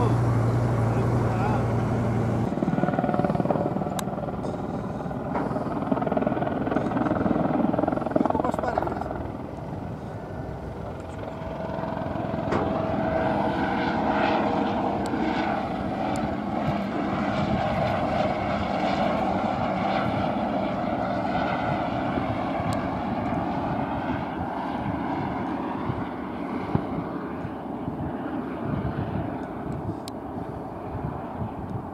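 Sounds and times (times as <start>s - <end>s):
helicopter flying past: 0.0s - 31.9s.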